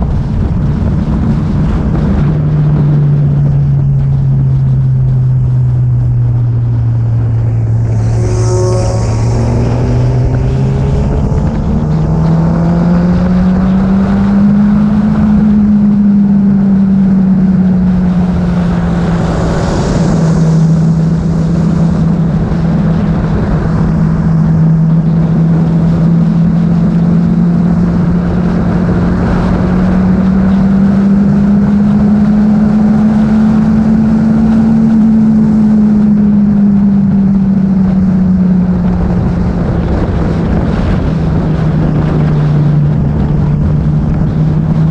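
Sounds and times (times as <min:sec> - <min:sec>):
engine cruising: 0:00.0 - 0:44.9
wind rushing over microphone: 0:00.0 - 0:44.9.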